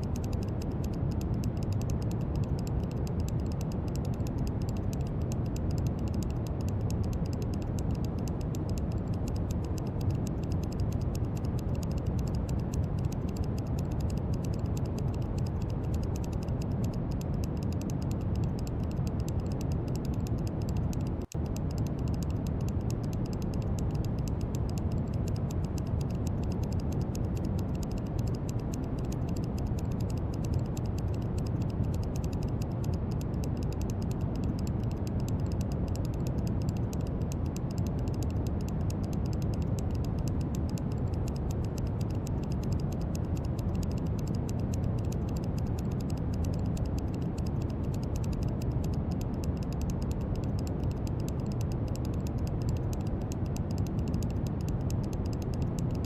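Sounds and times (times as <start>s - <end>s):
brown noise hiss-rumble: 0.0s - 56.0s.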